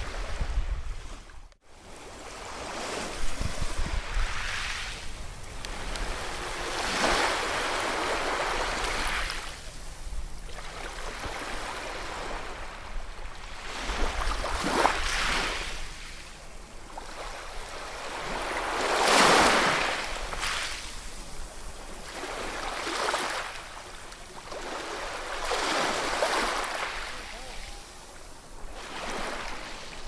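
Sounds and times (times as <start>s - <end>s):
ocean waves breaking on shore: 0.0s - 30.0s.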